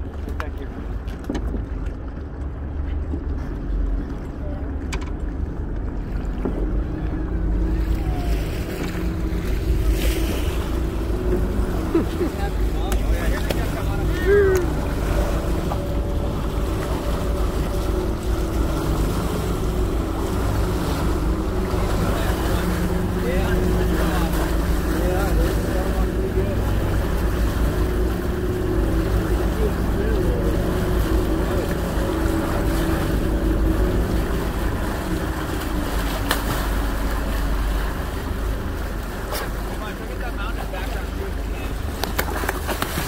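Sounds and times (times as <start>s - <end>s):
water rushing along a bow: 0.0s - 43.0s
faint hum: 1.8s - 43.0s.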